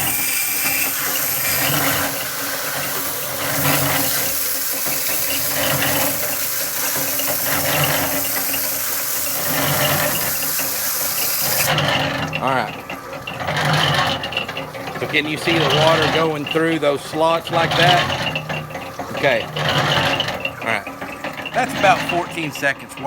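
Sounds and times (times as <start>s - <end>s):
hose water splashing in mixer drum: 0.0s - 23.0s.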